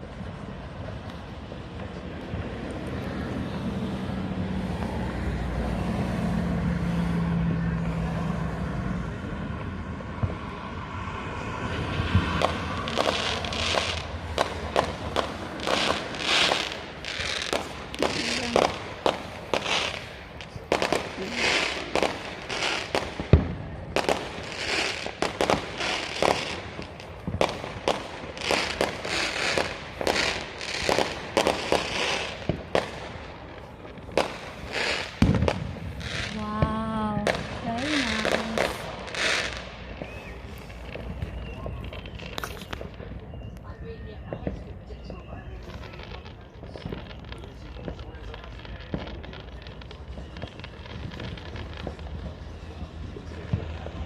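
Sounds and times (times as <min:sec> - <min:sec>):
firework bangs and crackles: 0:00.0 - 0:54.0.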